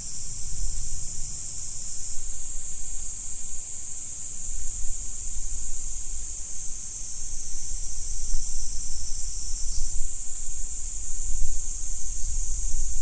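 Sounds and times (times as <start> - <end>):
high-pitched insects droning: 0.0 - 13.0
wind rumble on microphone: 0.0 - 13.0.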